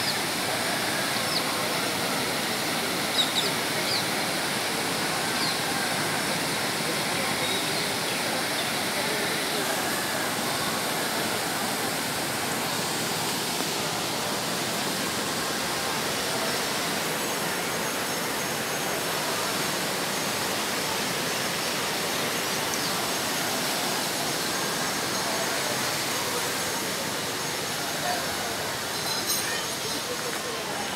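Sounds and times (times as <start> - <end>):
river rushing over rapids: 0.0 - 30.9.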